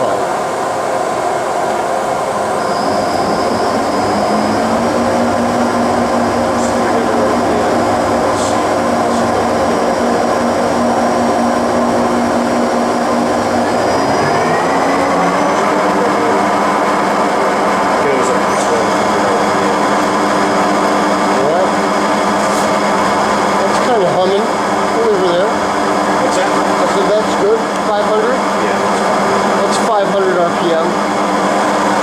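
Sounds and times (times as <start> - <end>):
lathe spindle whining: 0.0 - 32.0.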